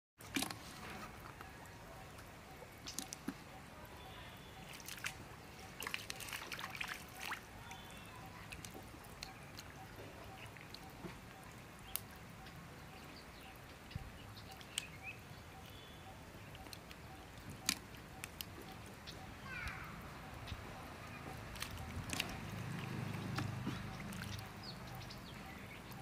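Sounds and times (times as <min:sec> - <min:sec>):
shallow water sloshing and dripping: 0:00.2 - 0:26.0.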